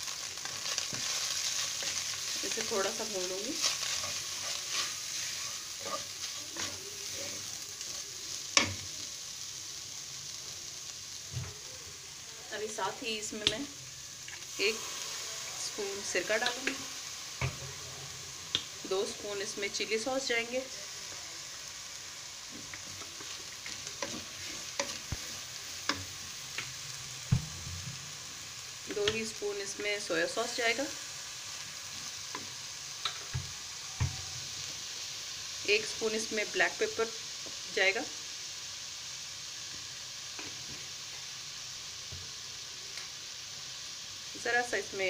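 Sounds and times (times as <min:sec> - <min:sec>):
chicken sizzling in hot oil: 0:00.0 - 0:45.0.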